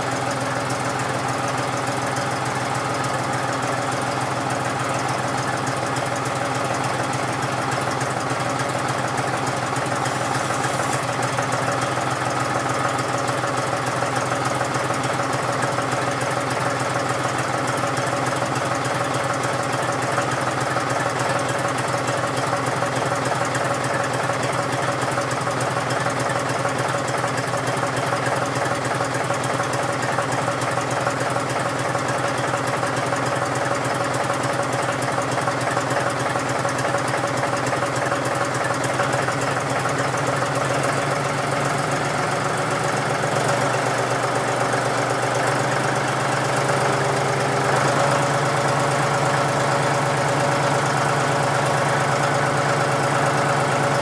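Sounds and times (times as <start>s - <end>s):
diesel tractor engine idling: 0.0s - 54.0s.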